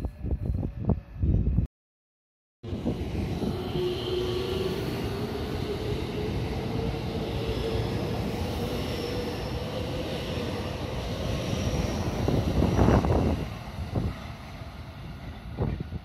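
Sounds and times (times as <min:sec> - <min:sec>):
train wheels rumbling on rail: 0:02.7 - 0:16.0.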